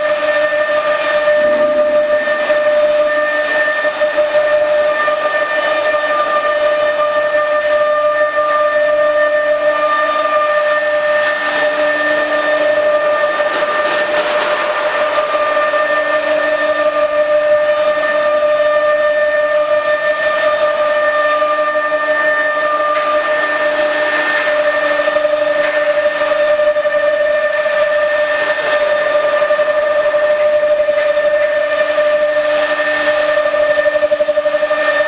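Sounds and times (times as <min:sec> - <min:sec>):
machinery whine: 0:00.0 - 0:35.0.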